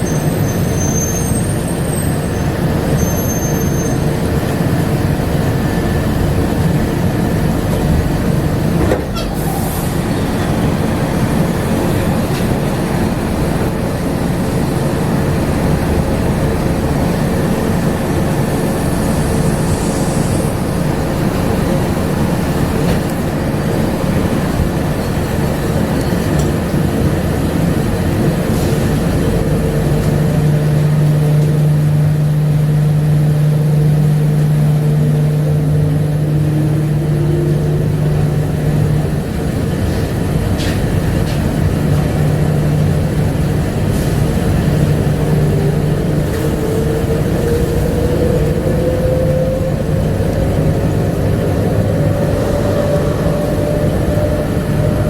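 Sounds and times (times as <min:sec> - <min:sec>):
tyres rumbling on guideway: 0:00.0 - 0:55.0.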